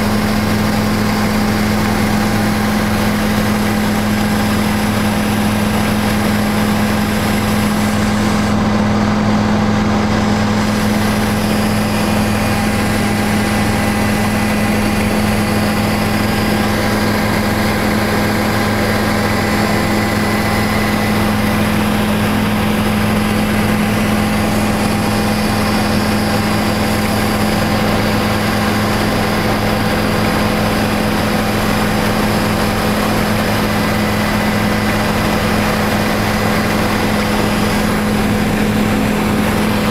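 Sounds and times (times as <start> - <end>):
helicopter cabin drone: 0.0 - 39.9.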